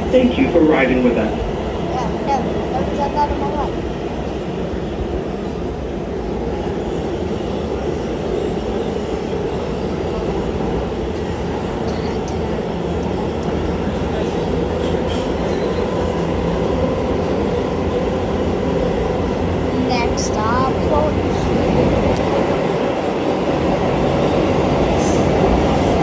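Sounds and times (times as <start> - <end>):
train rumbling inside car: 0.0 - 26.0.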